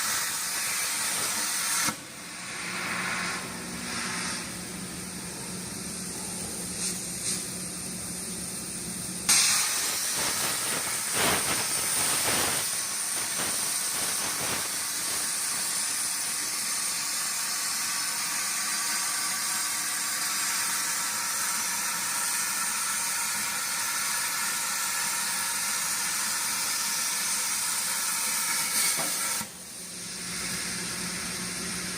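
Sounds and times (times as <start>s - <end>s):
plasma cutter hissing: 0.0s - 31.9s.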